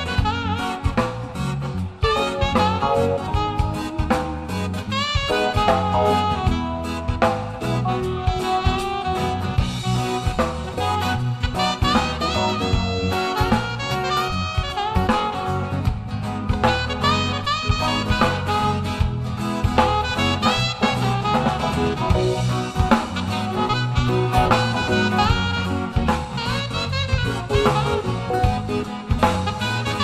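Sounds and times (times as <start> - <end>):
band accompaniment: 0.0 - 30.0
drum kit: 0.0 - 30.0
saxophone solo: 0.0 - 30.0.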